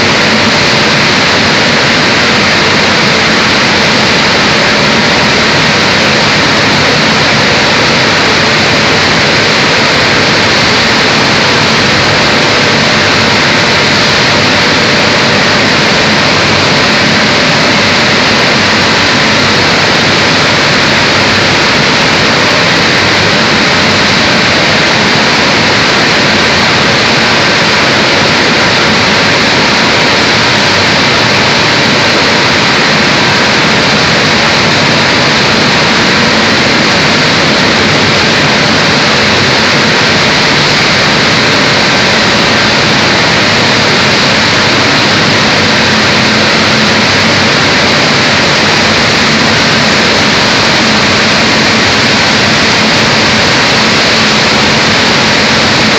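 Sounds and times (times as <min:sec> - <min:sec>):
milling machinery running: 0:00.0 - 0:55.9.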